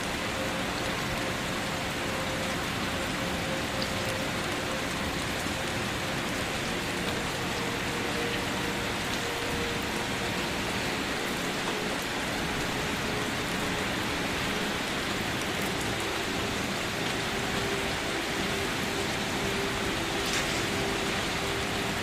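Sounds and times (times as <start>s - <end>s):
gentle rain hissing: 0.0s - 22.0s.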